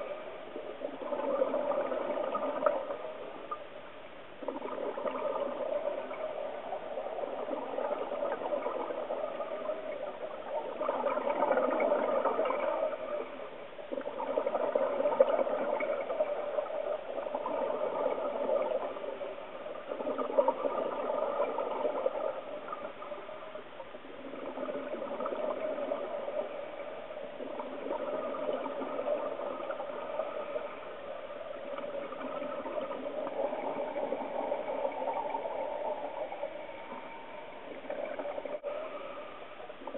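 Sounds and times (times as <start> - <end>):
exhaled bubbles gurgling: 0.0 - 39.9.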